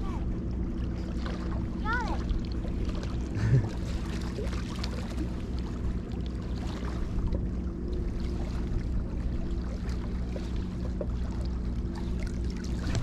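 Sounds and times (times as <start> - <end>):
faint water sounds: 0.0 - 13.0
low engine hum: 0.0 - 13.0.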